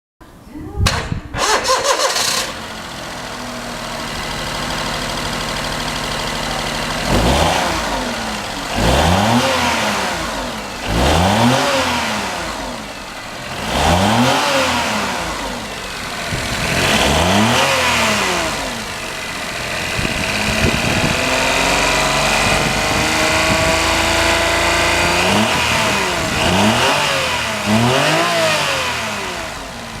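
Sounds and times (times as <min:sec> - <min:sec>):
car engine idling and revving: 0:01.4 - 0:30.0
slight engine rattling: 0:01.4 - 0:30.0.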